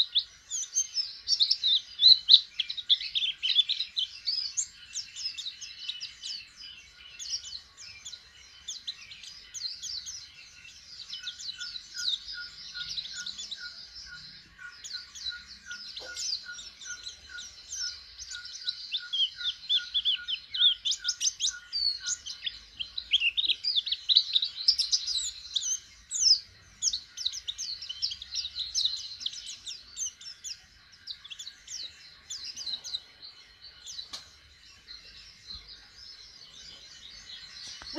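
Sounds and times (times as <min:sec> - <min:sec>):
bird twittering song: 0:00.0 - 0:37.9.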